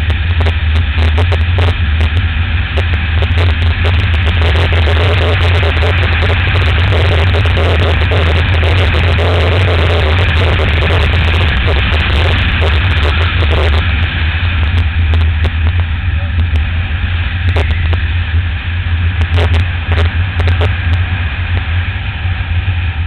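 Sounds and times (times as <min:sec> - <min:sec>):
motorcycle engine drone: 0:00.0 - 0:23.0
road and wind rush: 0:00.0 - 0:23.0.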